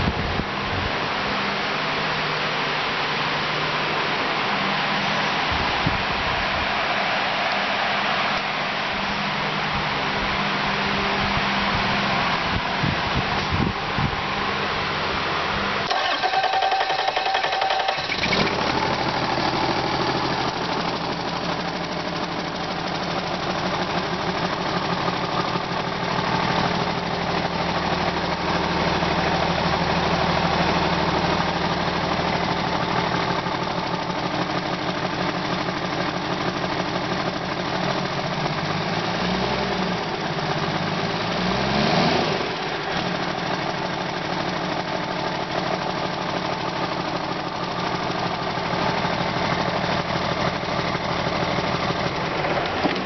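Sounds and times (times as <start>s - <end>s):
diesel engine starting and idling: 0.0s - 53.0s.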